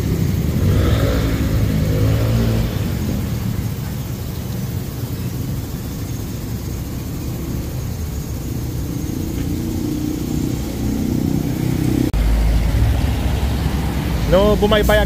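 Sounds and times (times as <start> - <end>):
vehicle engine idling low: 0.0 - 15.0.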